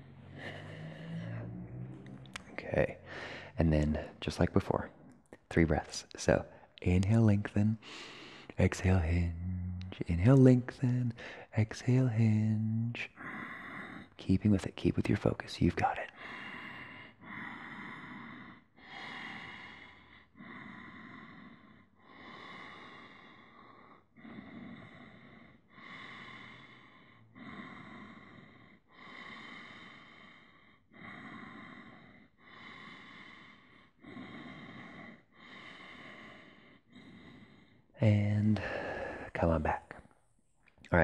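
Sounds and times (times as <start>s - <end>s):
man breathing slowly: 0.0s - 4.3s, 6.5s - 10.0s, 10.8s - 12.4s, 13.1s - 14.2s, 16.0s - 40.2s.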